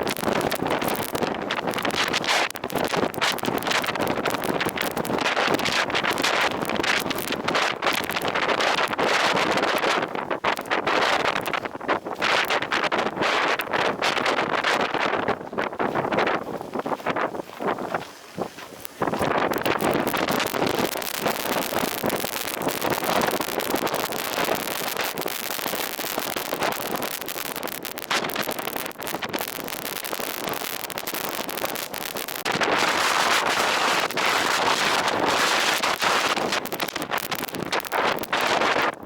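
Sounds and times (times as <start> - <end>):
dense patter of clicks: 0.0 - 39.0
wind buffeting microphone: 0.0 - 39.0.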